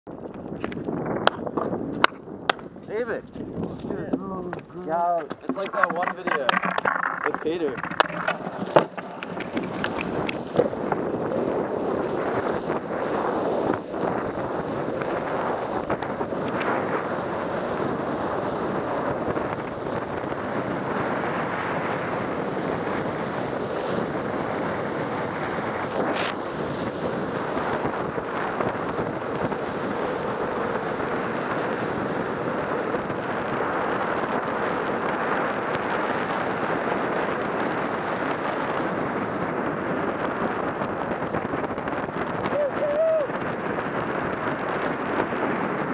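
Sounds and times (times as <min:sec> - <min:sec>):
wheels rolling on wet asphalt: 0:00.1 - 0:45.9
wind rushing on microphone: 0:00.1 - 0:45.9.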